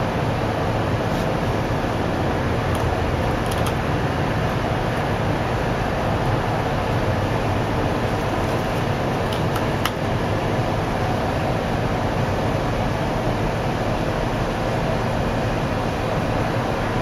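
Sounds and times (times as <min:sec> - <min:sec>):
background rumble and hiss: 0:00.0 - 0:17.0.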